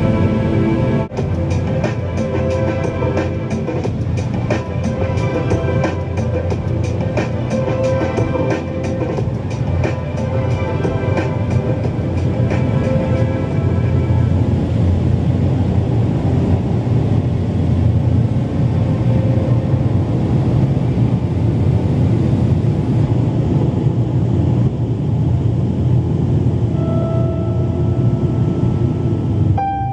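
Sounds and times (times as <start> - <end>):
car wash machinery rumbling: 0.0 - 29.9.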